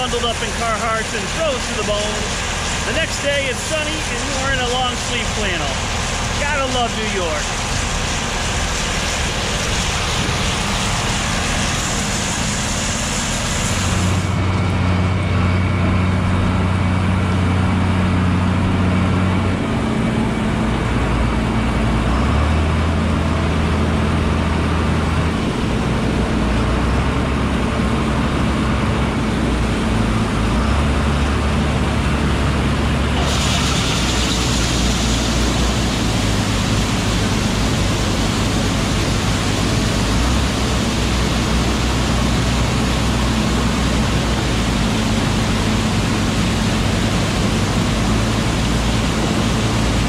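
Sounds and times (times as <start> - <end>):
combine harvester drone: 0.0 - 50.0.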